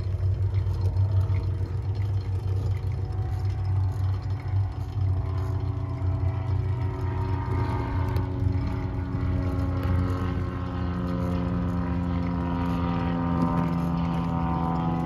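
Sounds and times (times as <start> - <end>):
bicycle tyres rolling on pavement: 0.0 - 14.9
steady hum: 0.0 - 15.0.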